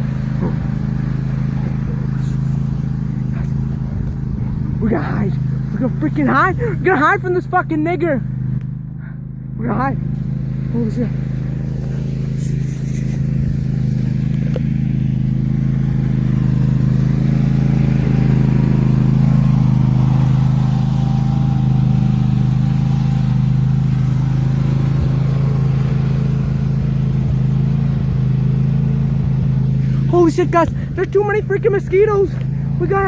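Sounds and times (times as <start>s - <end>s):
engine droning: 0.0s - 33.0s.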